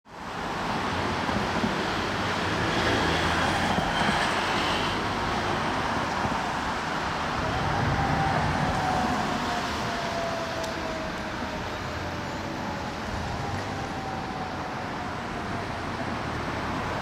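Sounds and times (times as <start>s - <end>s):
street traffic noise: 0.1s - 17.0s.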